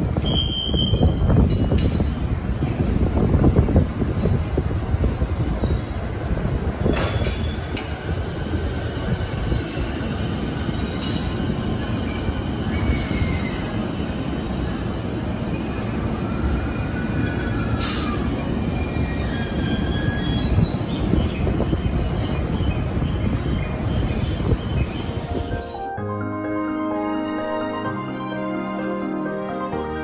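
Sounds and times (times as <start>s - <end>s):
train rumbling over rails: 0.0s - 25.9s.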